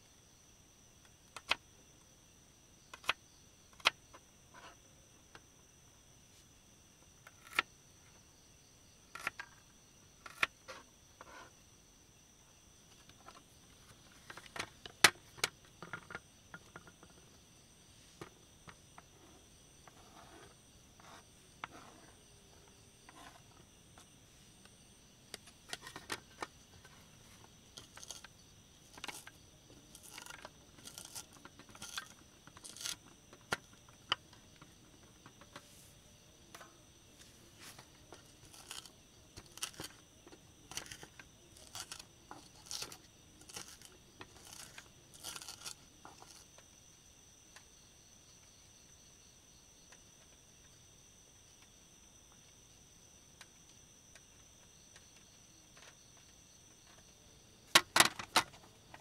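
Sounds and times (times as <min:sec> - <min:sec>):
crickets chirring: 0:00.0 - 0:59.0.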